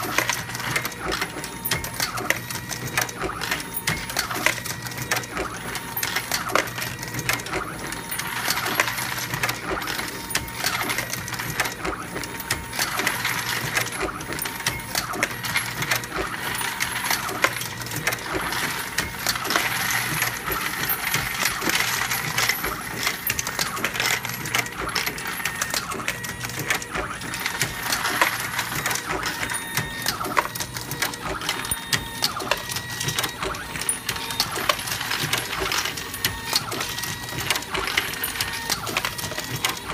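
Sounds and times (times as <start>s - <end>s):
reloading press clattering: 0.0s - 39.9s.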